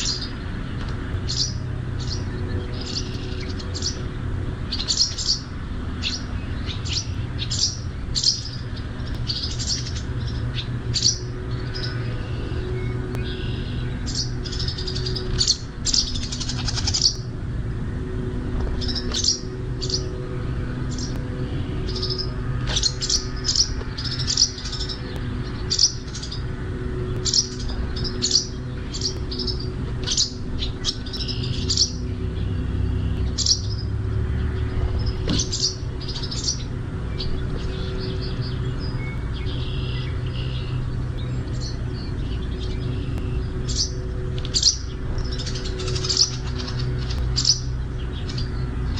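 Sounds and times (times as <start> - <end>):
small birds chirping: 0.0 - 48.9
steady low hum: 0.0 - 48.9.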